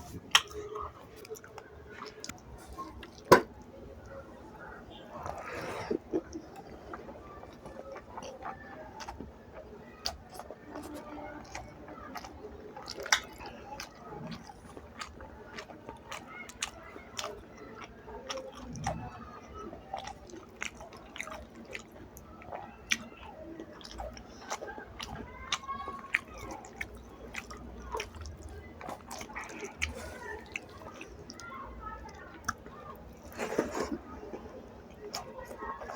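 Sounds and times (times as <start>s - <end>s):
person chewing and lip-smacking: 0.0s - 3.3s, 5.3s - 19.0s, 19.9s - 31.5s, 32.1s - 35.9s.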